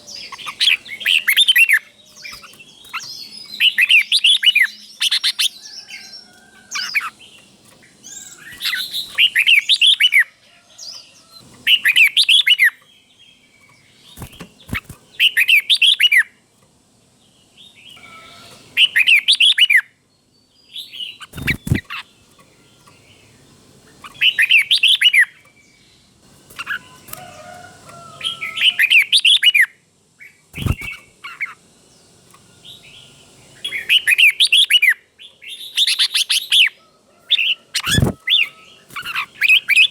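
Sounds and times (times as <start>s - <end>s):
bird warbling song: 0.0s - 16.4s, 17.3s - 39.9s.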